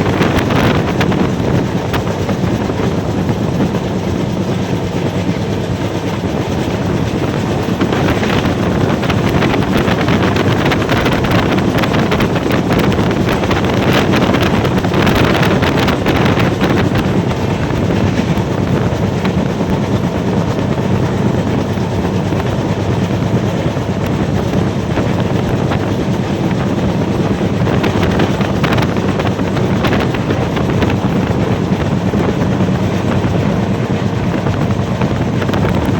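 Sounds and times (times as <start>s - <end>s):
train rumbling at speed: 0.0s - 35.9s.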